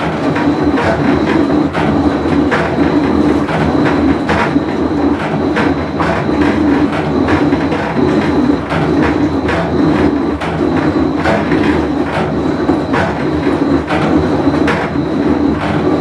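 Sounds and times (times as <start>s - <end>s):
washing machine clacks: 0.0s - 16.0s
washing machine rumble: 0.0s - 16.0s.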